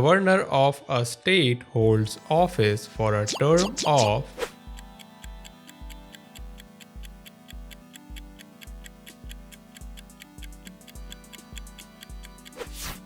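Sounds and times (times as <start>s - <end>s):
clock-like ticking: 1.9s - 12.9s.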